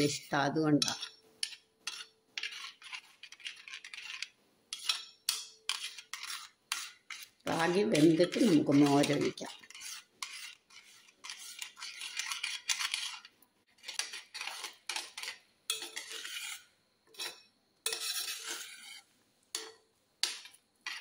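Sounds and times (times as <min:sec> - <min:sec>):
metal spoon scraping a pot: 0:00.0 - 0:21.0.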